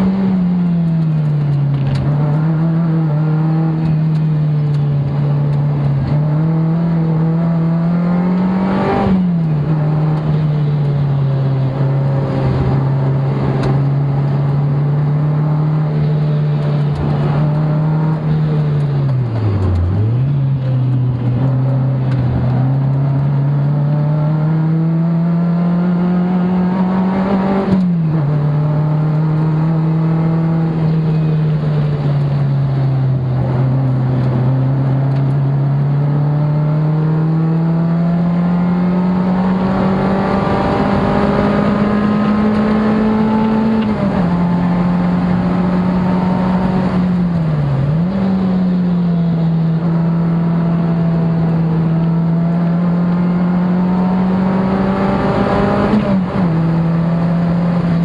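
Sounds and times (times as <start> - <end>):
sports car engine droning: 0.0 - 58.0.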